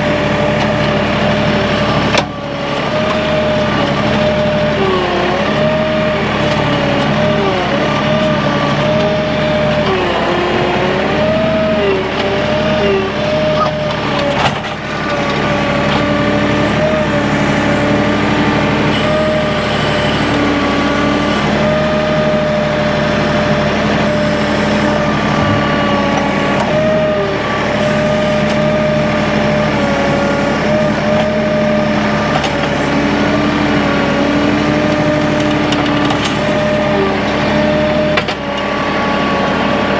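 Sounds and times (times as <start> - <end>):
machine engine whining: 0.0 - 39.9.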